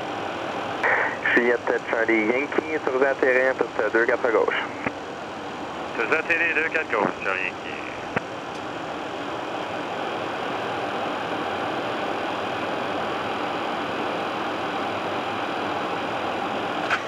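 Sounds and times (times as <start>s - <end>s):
aircraft cockpit engine and airflow noise: 0.0s - 17.0s.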